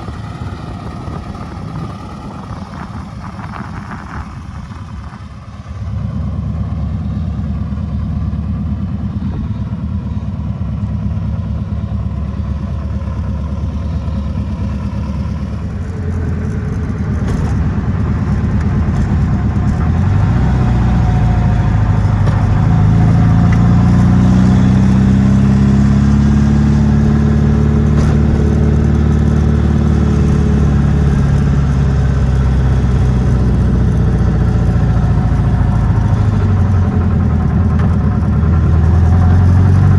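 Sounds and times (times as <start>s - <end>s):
car engine accelerating: 0.0s - 7.1s, 7.7s - 39.9s.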